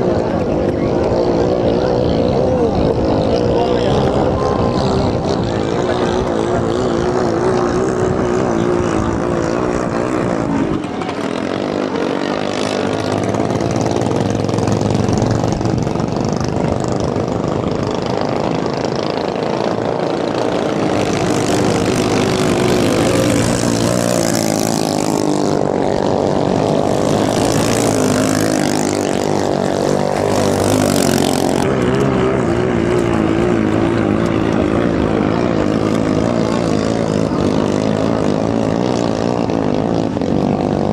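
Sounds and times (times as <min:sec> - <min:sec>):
longtail boat engines racing: 0:00.0 - 0:40.9.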